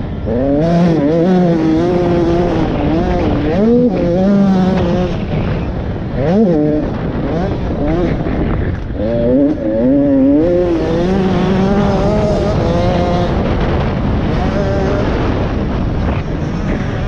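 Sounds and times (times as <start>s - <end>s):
two-stroke motorbike engine revving: 0.0s - 17.0s
wind rushing: 0.0s - 17.0s.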